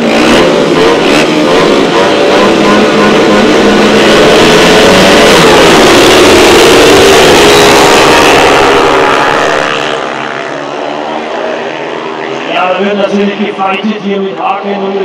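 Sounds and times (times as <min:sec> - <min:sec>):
racing motorcycles at full throttle: 0:00.0 - 0:15.0.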